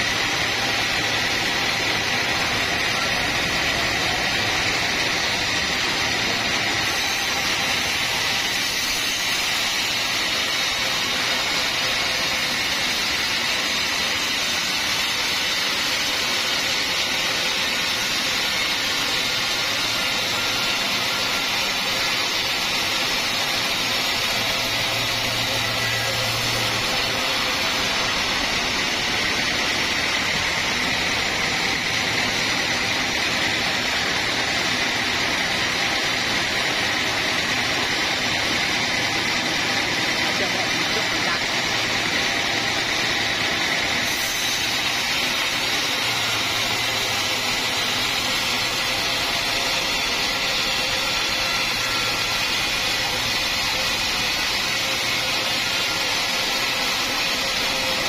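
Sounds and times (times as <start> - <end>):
band saw cutting a log: 0.0 - 58.0.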